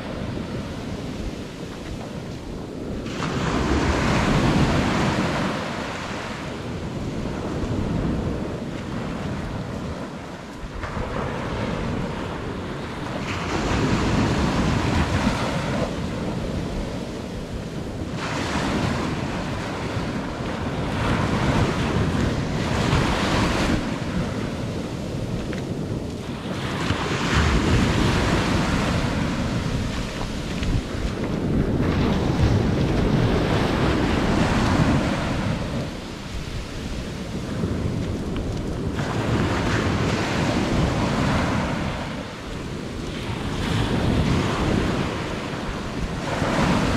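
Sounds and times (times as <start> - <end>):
ocean waves breaking: 0.0 - 46.9
wind buffeting microphone: 0.0 - 46.9.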